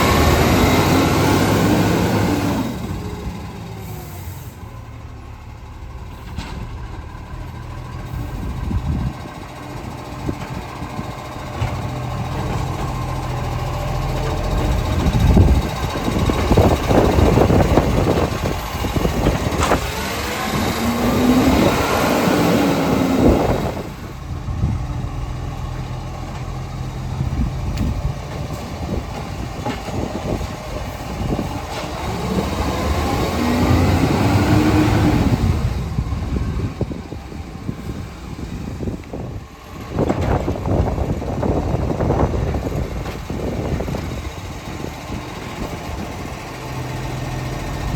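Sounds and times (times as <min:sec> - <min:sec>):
garbage truck engine running: 0:00.0 - 0:47.9.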